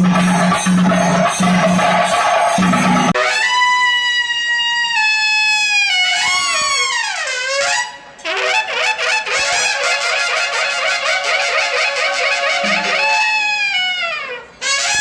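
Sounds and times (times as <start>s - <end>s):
wind instrument playing: 0.0s - 15.0s.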